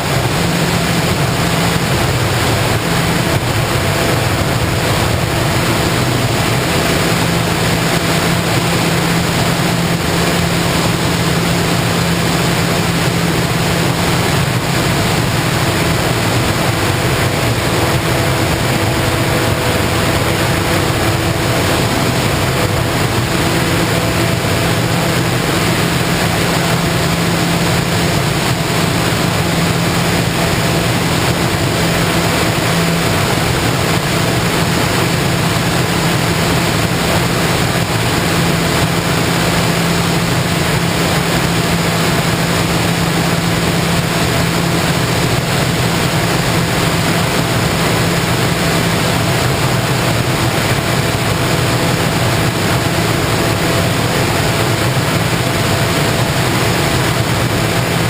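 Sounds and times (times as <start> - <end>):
model plane motor humming: 0.0 - 58.0
wind rush: 0.0 - 58.0.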